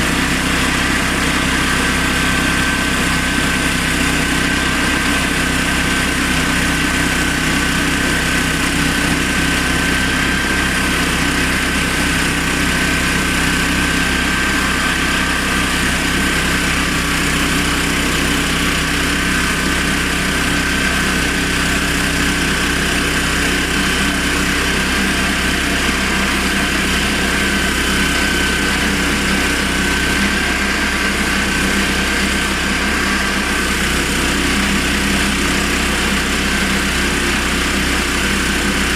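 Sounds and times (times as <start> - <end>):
petrol engine running steadily: 0.0 - 38.9.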